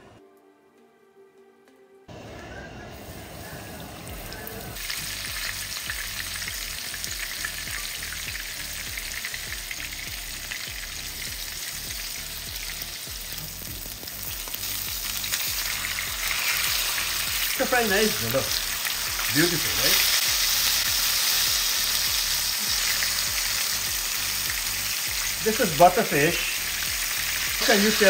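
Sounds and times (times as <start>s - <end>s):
fish frying in hot oil: 4.2s - 28.0s.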